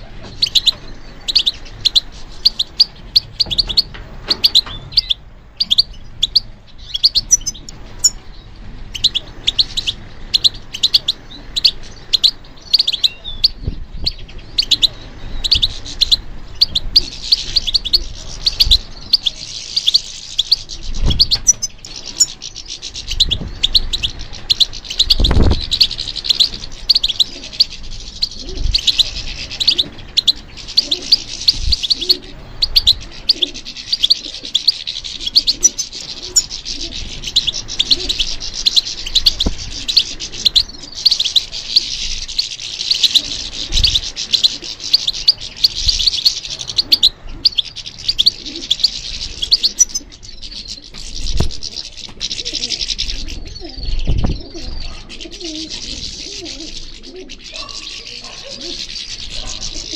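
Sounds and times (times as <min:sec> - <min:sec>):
bird twittering and trilling: 0:00.0 - 0:59.9.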